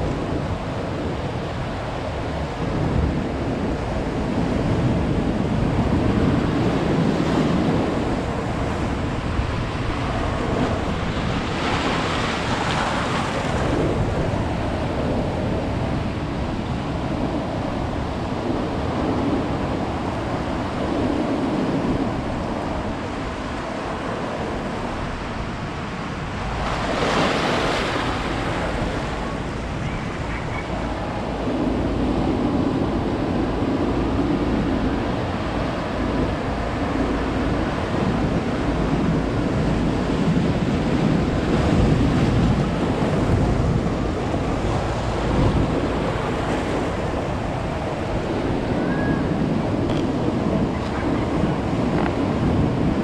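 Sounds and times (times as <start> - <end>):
ocean surf washing on beach: 0.0 - 53.0
waves breaking: 0.0 - 53.0.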